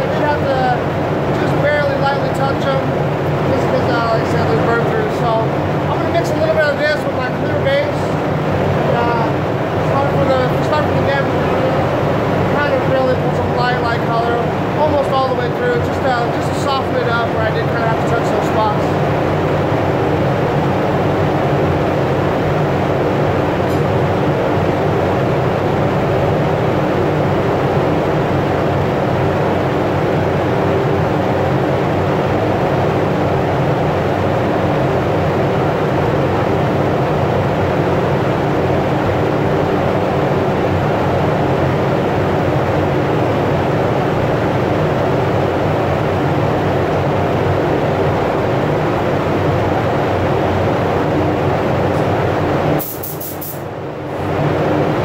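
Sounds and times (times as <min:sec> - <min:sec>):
ventilation fans rushing air: 0:00.0 - 0:55.0.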